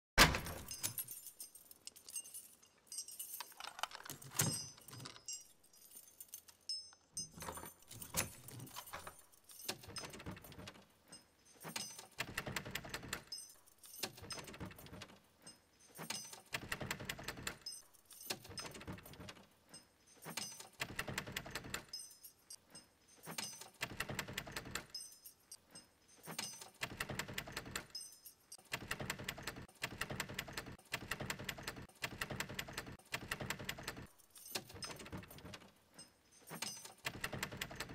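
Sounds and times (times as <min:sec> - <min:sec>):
key rattling in door lock: 0:00.2 - 0:37.9.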